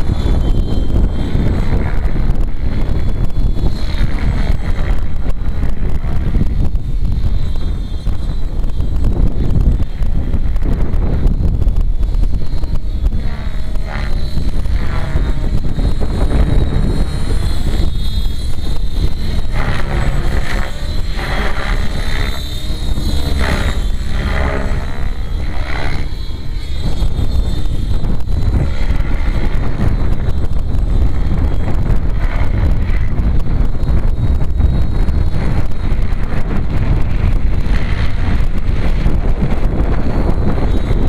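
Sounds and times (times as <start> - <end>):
rc helicopter rotor flying overhead: 0.0 - 41.0
wind rumble on microphone: 0.0 - 41.0.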